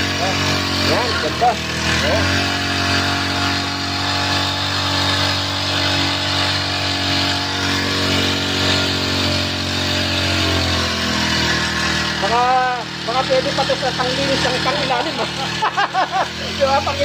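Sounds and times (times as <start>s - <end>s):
small engine running: 0.0s - 17.0s
spray jet hissing: 0.0s - 17.0s.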